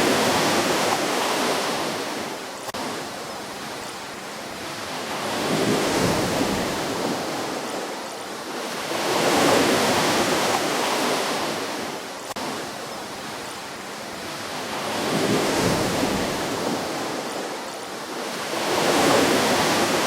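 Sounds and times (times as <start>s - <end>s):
ocean waves washing on shore: 0.0s - 20.0s.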